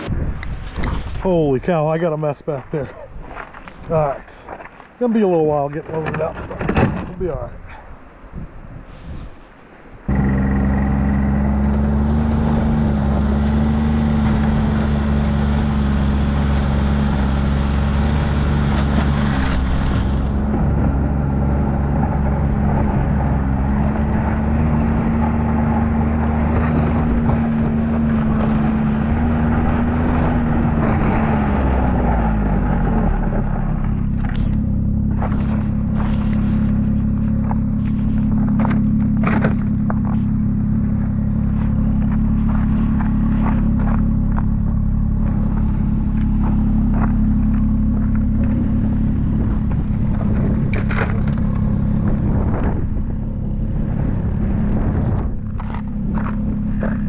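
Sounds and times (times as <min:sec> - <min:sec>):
snowmobile engine running: 0:10.1 - 0:57.0.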